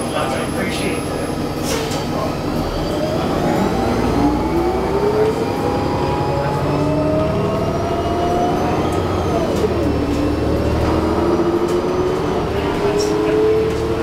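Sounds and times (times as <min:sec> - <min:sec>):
bus drivetrain whine: 0:00.0 - 0:14.0
engine and road rumble: 0:00.0 - 0:14.0.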